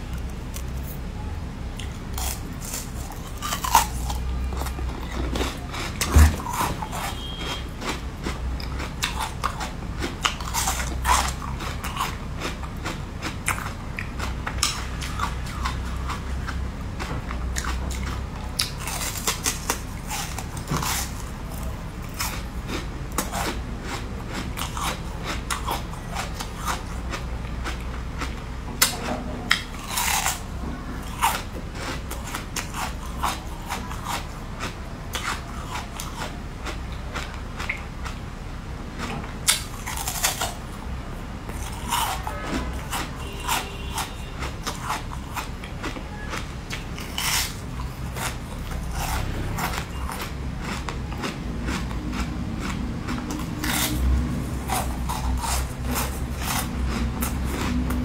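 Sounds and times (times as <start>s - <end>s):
chewing: 1.8s - 38.2s, 39.0s - 40.8s, 41.5s - 58.0s.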